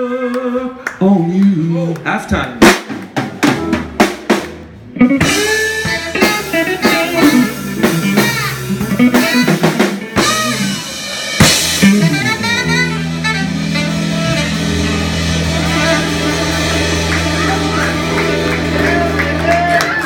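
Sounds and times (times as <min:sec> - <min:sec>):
live blues band playing: 0:01.9 - 0:20.0
electric guitar lead line: 0:03.4 - 0:20.0.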